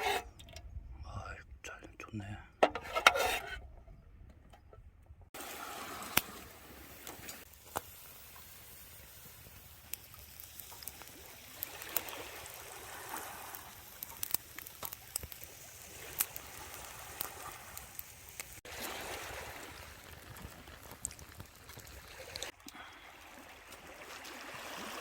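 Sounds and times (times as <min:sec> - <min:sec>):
water sloshing and trickling: 0:00.0 - 0:00.8, 0:02.6 - 0:25.0.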